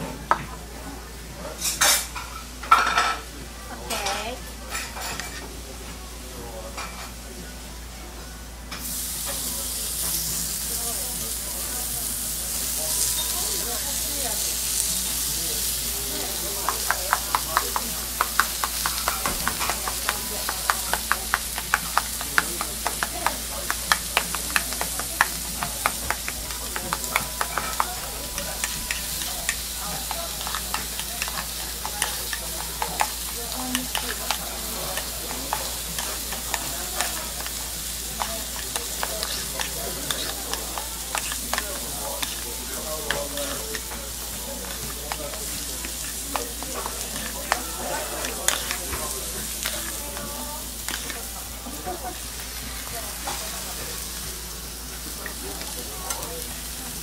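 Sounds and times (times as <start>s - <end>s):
meat sizzling on griddle: 8.8s - 57.0s.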